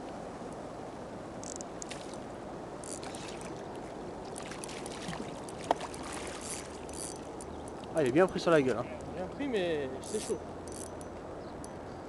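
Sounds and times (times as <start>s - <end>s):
water noise: 0.0s - 11.8s.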